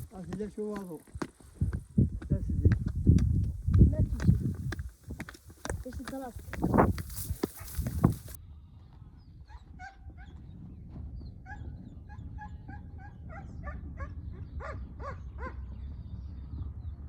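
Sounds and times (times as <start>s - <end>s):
steady low rumble: 1.5s - 9.5s, 10.7s - 17.0s.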